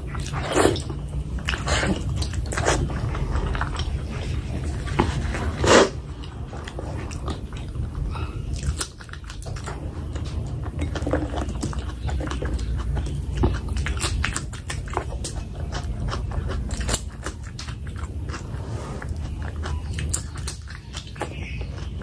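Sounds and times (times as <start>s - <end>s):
chewing food: 0.0s - 22.0s
steady low hum: 0.0s - 22.0s.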